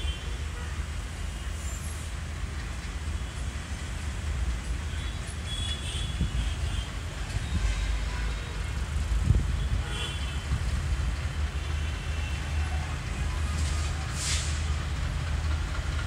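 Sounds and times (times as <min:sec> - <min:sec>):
diesel locomotive rumbling: 0:00.0 - 0:16.0.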